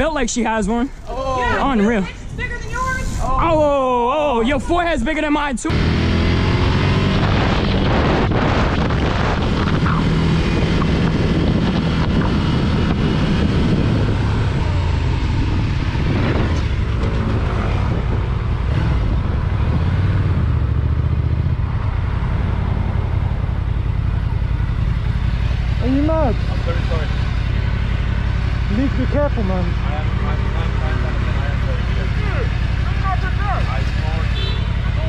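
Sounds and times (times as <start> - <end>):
road and wind noise: 0.0 - 35.0
motorcycle engine running: 5.7 - 35.0.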